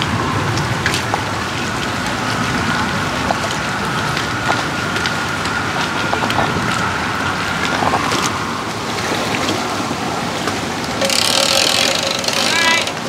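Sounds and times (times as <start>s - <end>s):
wind blowing over microphone: 0.0s - 11.0s
lake water lapping: 0.0s - 13.0s.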